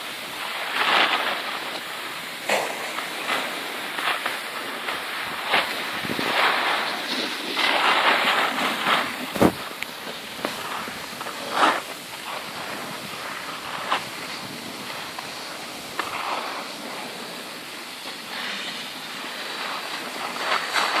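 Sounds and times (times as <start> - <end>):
skis scraping over snow: 0.0 - 21.0
wind on microphone: 0.0 - 21.0.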